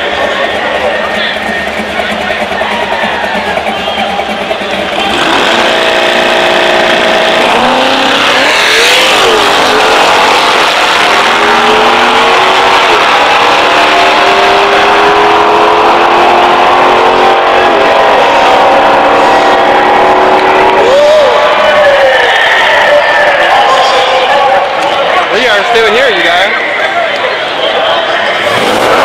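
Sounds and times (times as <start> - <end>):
race car engine accelerating: 0.0 - 24.0, 27.9 - 29.0.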